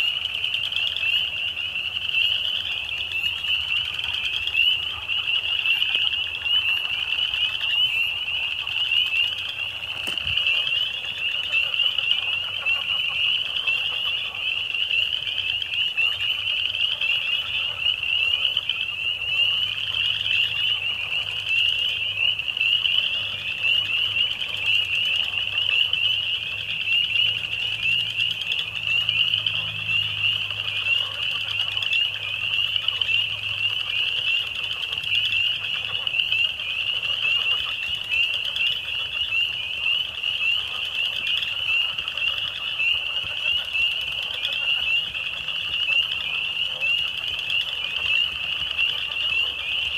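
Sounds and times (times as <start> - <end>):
frogs peeping in chorus: 0.0 - 49.9.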